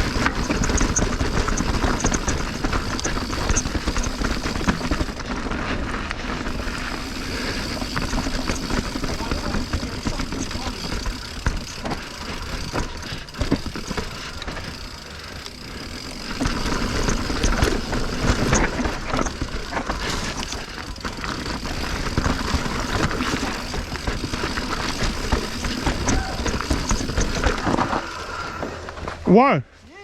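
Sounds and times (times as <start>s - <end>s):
bike rattling: 0.0s - 29.3s
tyres over rocks and roots: 0.0s - 29.4s.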